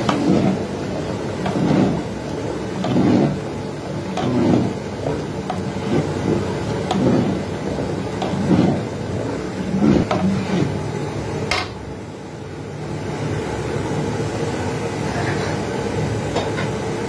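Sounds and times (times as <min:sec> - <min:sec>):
pot of rice boiling: 0:00.0 - 0:17.0.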